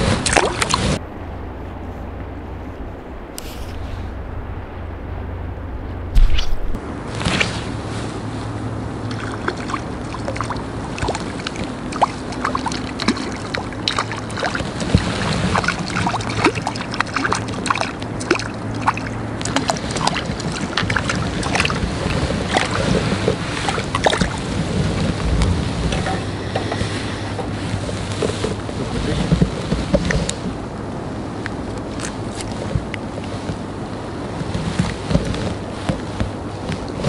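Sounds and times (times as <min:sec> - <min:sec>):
small waves lapping: 0:00.0 - 0:05.4, 0:06.1 - 0:30.6
wind buffeting microphone: 0:00.0 - 0:37.0.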